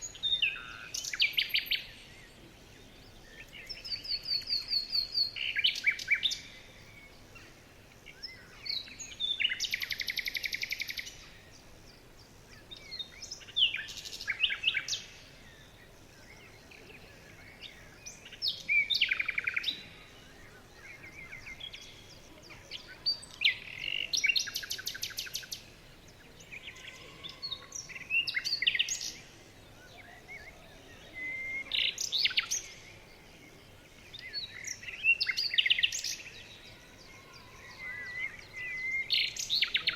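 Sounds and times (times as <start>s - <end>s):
faint outdoor background noise: 0.0s - 39.9s
songbird chirps and trills: 0.0s - 39.9s.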